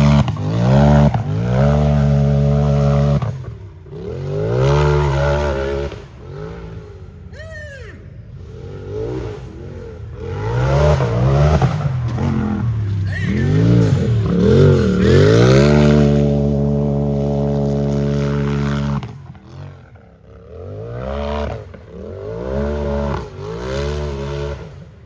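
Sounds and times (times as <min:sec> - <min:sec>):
engine revving hard: 0:00.0 - 0:07.0, 0:08.3 - 0:25.0.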